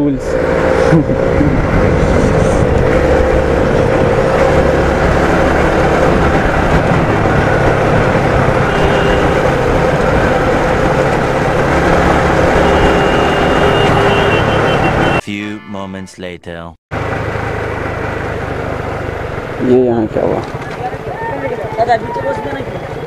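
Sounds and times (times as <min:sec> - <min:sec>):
wind and road noise: 0:00.0 - 0:15.2, 0:16.9 - 0:23.0.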